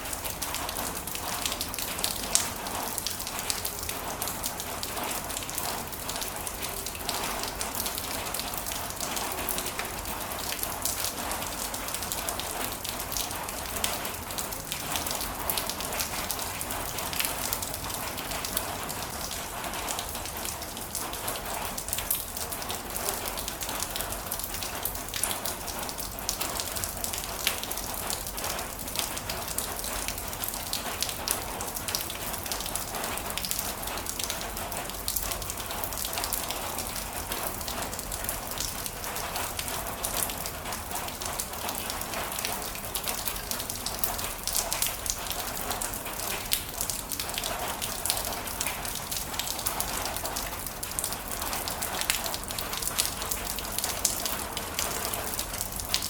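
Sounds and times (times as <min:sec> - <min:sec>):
heavy rain: 0:00.0 - 0:56.0
raindrops pattering on a surface: 0:00.0 - 0:56.0.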